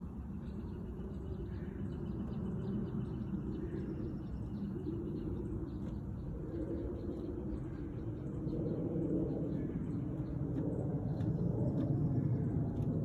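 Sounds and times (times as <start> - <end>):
low rumble of background noise: 0.0 - 13.0.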